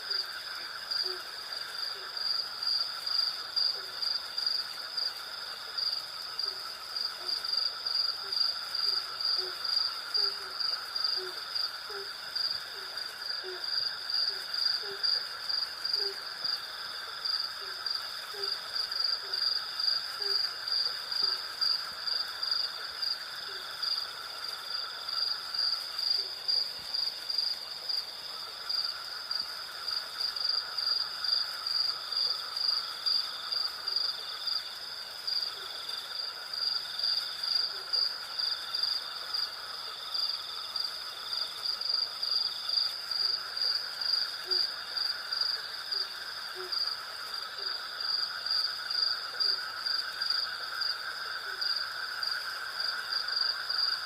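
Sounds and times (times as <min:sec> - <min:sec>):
crickets and cicadas chirping: 0:00.0 - 0:54.0.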